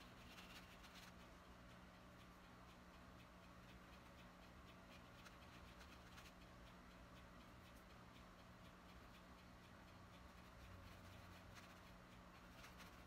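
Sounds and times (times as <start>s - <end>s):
faint electrical hum: 0.0s - 13.0s
soft irregular ticks: 0.0s - 13.0s.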